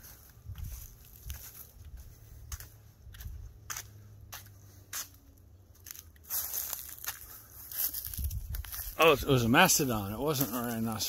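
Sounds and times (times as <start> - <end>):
footsteps on paved path: 0.0 - 11.0.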